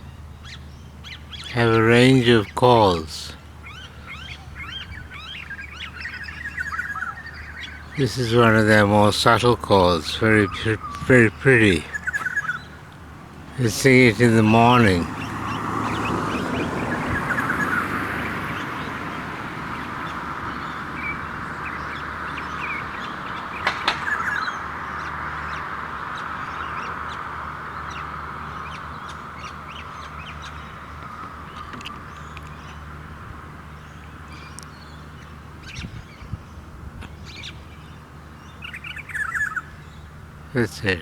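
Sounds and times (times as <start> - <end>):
birds chattering and chirping: 0.0 - 41.0.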